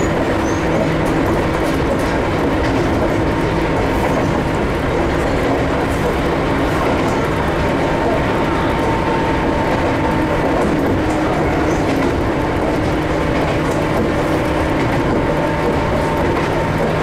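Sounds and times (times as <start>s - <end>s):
steady train hum: 0.0s - 17.0s
train wheels rumbling on track: 0.0s - 17.0s.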